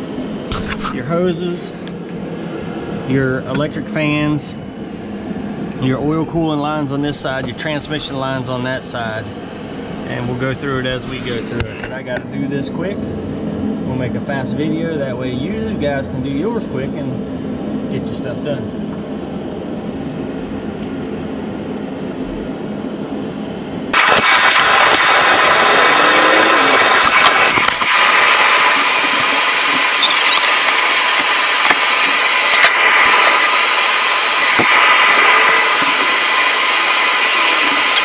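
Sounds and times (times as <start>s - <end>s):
machine hum and whooshing hiss: 0.0s - 38.0s.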